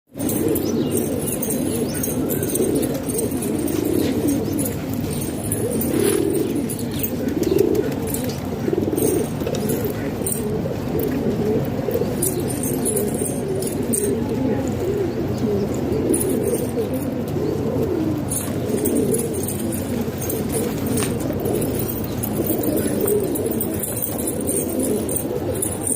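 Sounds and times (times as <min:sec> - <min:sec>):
pigeons cooing: 0:00.1 - 0:25.9.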